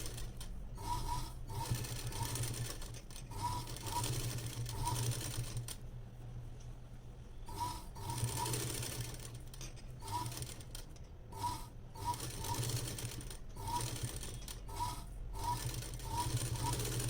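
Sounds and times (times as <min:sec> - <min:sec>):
sewing machine stitching: 0:00.0 - 0:05.8, 0:07.5 - 0:17.0.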